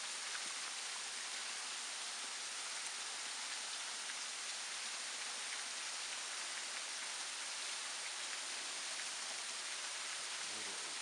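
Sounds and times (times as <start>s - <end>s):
water drips: 0.0s - 11.0s
waterfall splashing: 0.0s - 11.0s.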